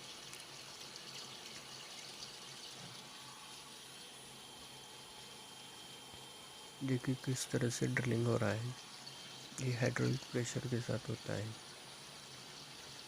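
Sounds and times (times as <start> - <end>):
coolant running: 0.0 - 13.0
low machine hum: 0.0 - 13.0.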